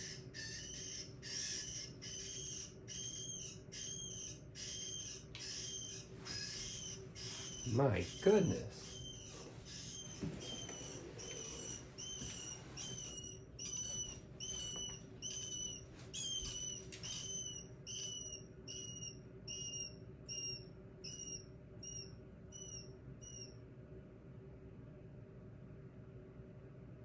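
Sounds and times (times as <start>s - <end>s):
rat pup squeaking: 0.0s - 23.6s.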